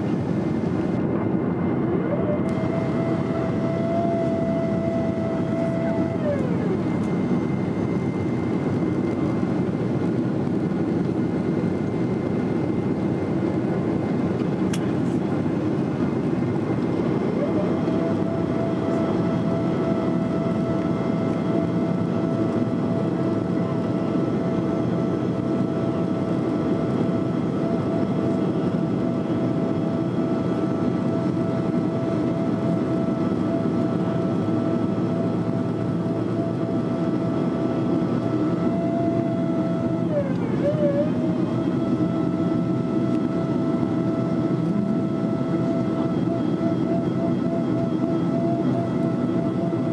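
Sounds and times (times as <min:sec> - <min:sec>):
airliner cabin engine noise: 0:00.0 - 0:49.9
steady whine: 0:00.0 - 0:49.9.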